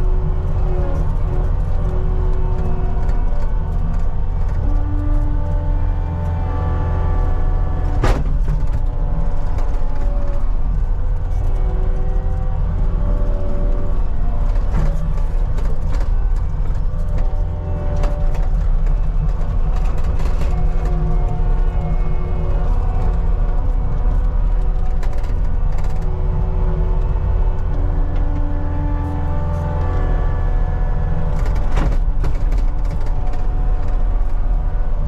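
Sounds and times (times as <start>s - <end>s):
diesel engine running under load: 0.0s - 35.0s.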